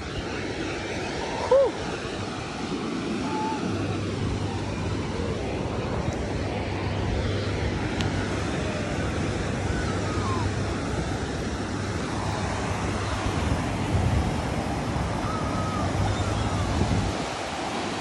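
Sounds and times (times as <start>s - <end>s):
ocean surf washing on shore: 0.0s - 18.0s
wind buffeting microphone: 0.8s - 18.0s.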